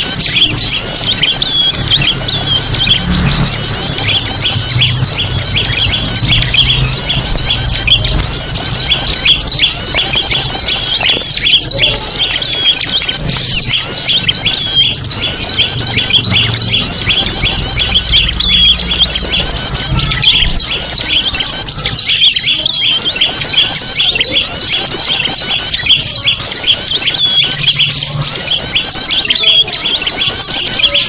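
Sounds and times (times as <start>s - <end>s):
small birds chirping and squeaking: 0.0s - 31.0s.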